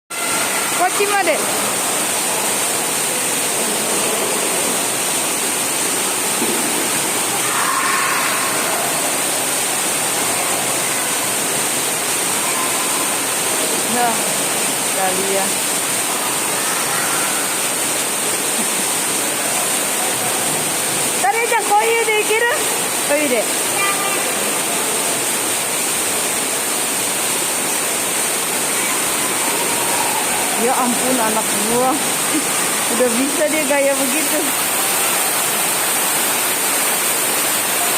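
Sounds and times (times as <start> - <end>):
running water rushing: 0.1 - 37.9.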